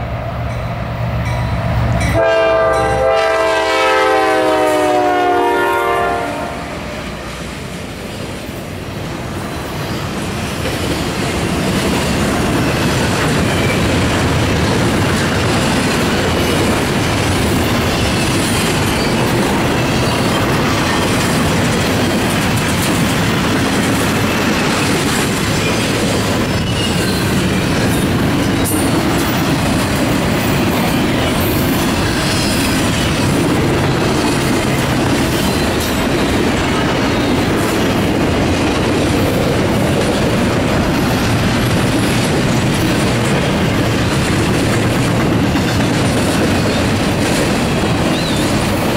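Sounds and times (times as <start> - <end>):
freight train passing: 0.0 - 48.9.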